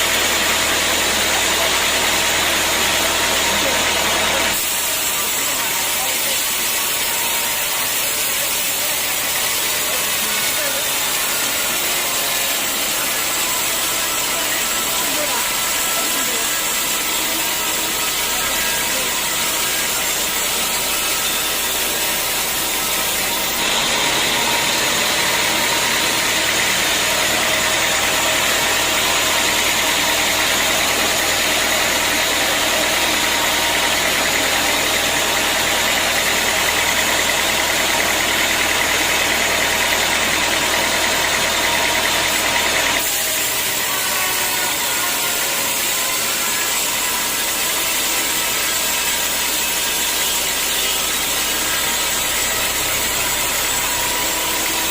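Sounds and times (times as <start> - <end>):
saw cutting into log: 0.0 - 54.9
sawmill machinery running: 0.0 - 54.9.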